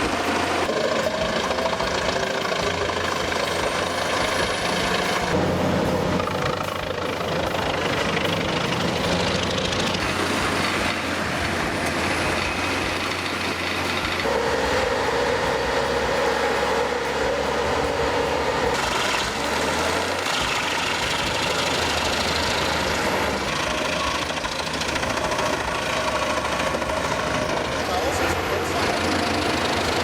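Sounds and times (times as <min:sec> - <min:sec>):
heavy machinery running: 0:00.0 - 0:30.0.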